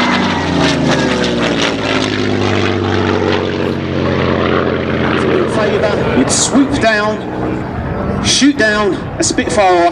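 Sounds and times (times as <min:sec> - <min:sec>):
propeller plane flying past: 0:00.0 - 0:09.9.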